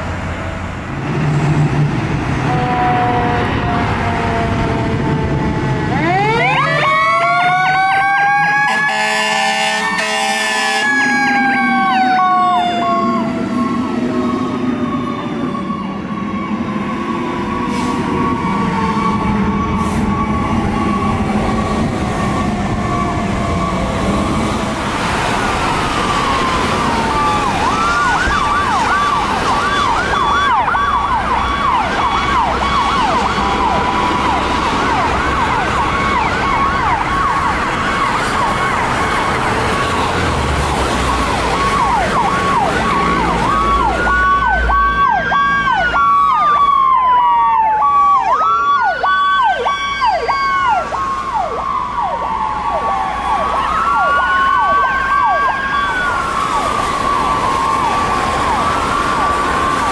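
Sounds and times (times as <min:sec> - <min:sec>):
siren wail: 0:02.0 - 0:59.9
steady broken siren tone: 0:02.4 - 0:59.9
siren yelp: 0:02.5 - 0:59.9.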